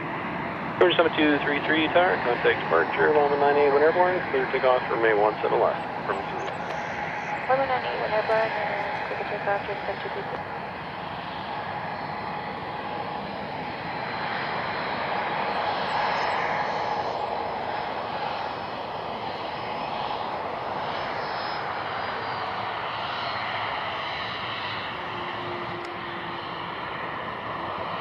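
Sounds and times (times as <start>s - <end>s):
airplane taking off: 0.0s - 28.0s.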